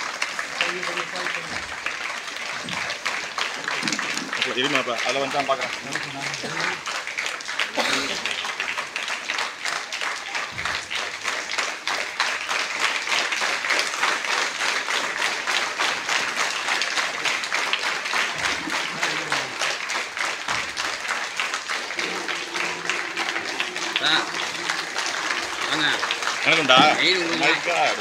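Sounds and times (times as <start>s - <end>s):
crowd applauding: 0.0s - 28.0s.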